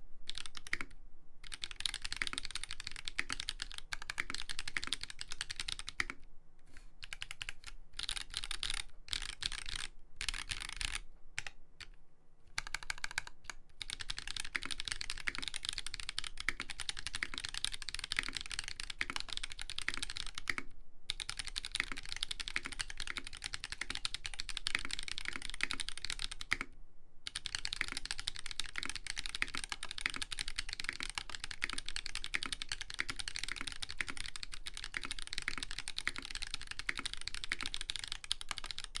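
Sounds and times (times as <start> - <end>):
mechanical keyboard typing: 0.3 - 6.2, 7.0 - 12.0, 12.6 - 26.7, 27.3 - 39.0.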